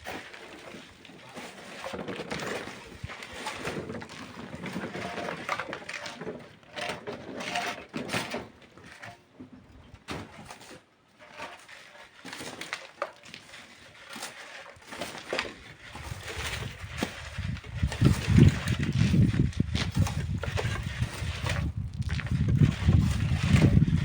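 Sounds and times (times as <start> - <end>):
knocks and scrapes on sand and stone: 0.0 - 24.0.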